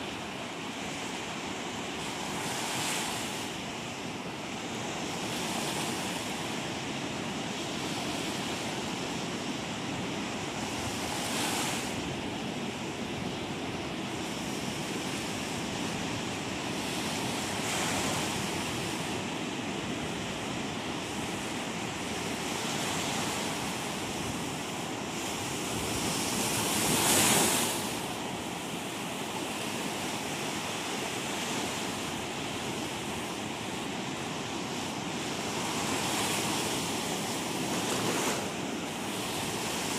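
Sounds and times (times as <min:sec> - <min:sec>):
ocean surf breaking on rocky beach: 0:00.0 - 0:39.9.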